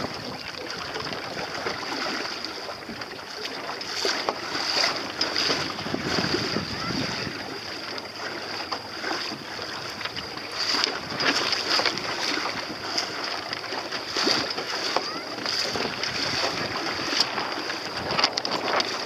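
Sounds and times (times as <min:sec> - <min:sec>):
wind on microphone: 0:00.0 - 0:03.0, 0:03.9 - 0:07.8, 0:09.0 - 0:13.3, 0:14.0 - 0:19.0
water slapping against boat hull: 0:00.0 - 0:19.0.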